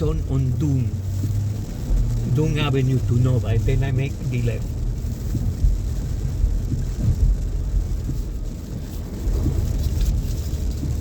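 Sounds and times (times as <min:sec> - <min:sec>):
heavy rain drumming on car roof: 0:00.0 - 0:11.0
low rumble of road noise: 0:00.0 - 0:11.0.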